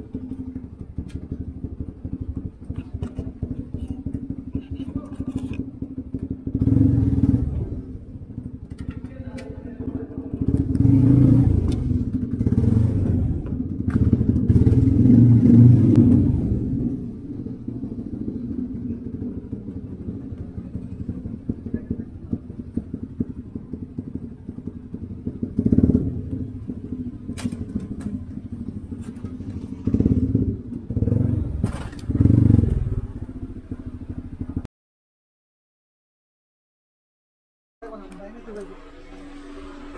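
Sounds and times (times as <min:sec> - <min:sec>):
motorcycle engine revving: 0:00.0 - 0:34.7, 0:37.8 - 0:39.9.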